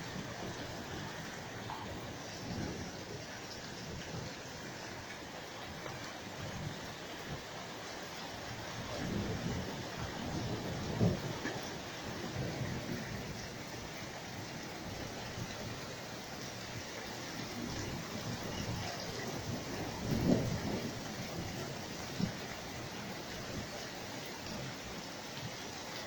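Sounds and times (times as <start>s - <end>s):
low rumble of thunder: 0.0s - 25.7s
steady rain: 0.0s - 26.0s.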